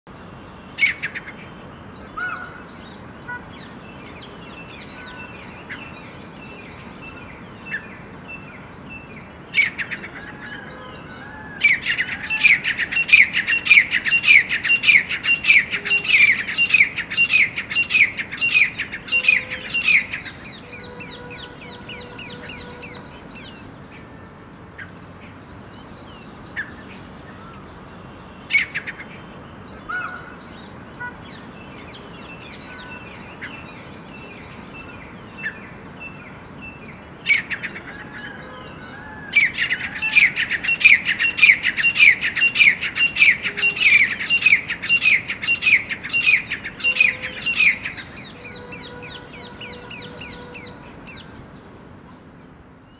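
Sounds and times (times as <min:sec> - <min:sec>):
bird chirps and calls: 0:02.1 - 0:23.8, 0:26.1 - 0:51.5.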